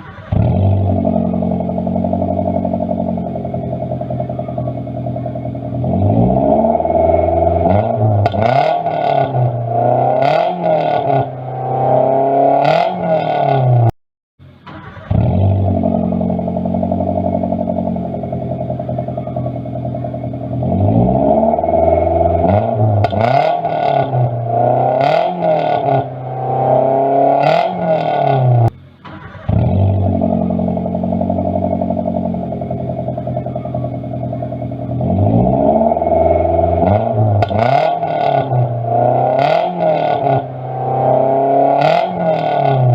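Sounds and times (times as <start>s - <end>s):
car engine idling: 0.0s - 42.9s
car engine revving: 0.0s - 42.9s.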